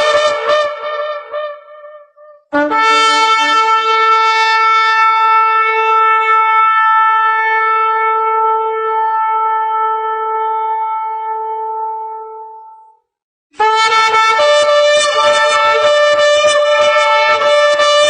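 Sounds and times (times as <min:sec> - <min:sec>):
ram's-horn trumpet blast: 0:00.0 - 0:12.5, 0:13.6 - 0:18.0.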